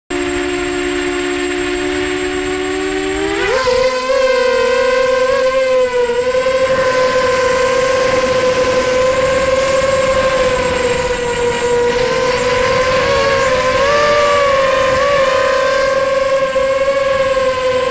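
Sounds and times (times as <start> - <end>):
quadcopter motors whining: 0.1 - 17.9.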